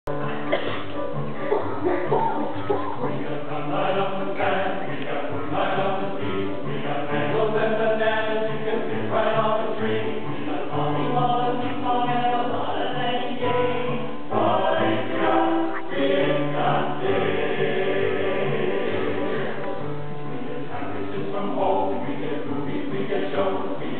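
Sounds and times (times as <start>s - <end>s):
men's choir singing: 2.7s - 23.9s.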